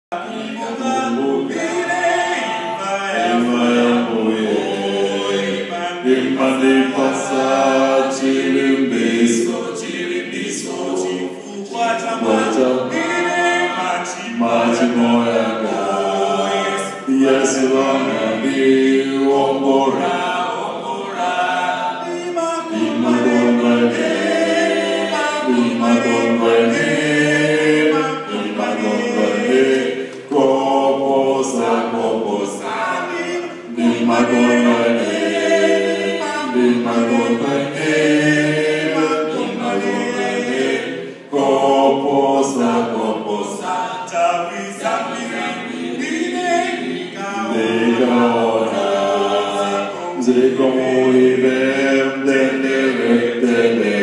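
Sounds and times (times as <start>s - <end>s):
male a cappella group singing: 0.0s - 54.0s.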